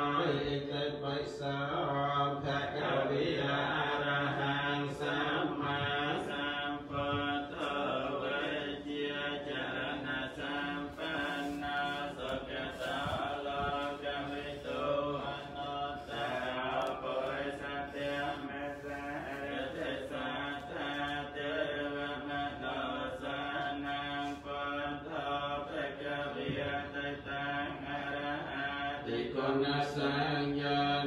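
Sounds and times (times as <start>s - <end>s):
monks chanting: 0.0s - 31.0s.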